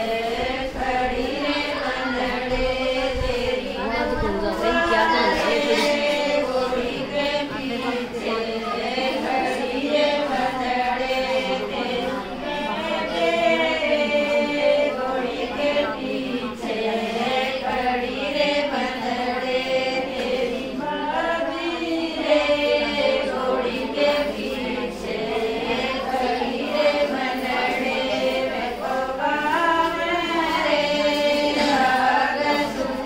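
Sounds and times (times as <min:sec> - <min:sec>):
women singing folk song: 0:00.0 - 0:33.0.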